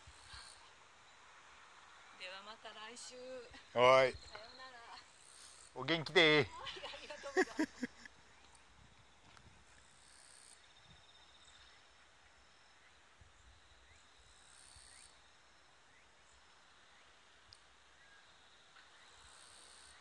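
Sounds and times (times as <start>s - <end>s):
faint insects chirring: 0.0s - 20.0s.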